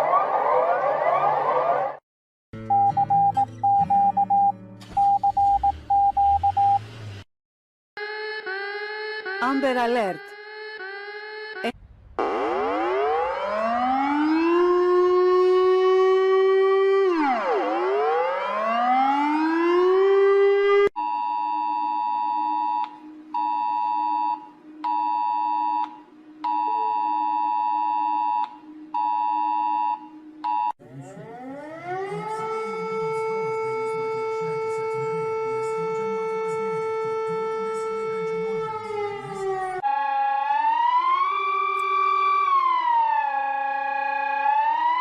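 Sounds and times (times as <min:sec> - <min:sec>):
siren gliding up: 0:00.0 - 0:02.0, 0:08.0 - 0:45.0
siren wailing up and down: 0:00.0 - 0:02.0, 0:08.0 - 0:20.9, 0:22.3 - 0:45.0
siren winding up and down: 0:00.0 - 0:02.0, 0:08.0 - 0:20.9, 0:21.6 - 0:45.0.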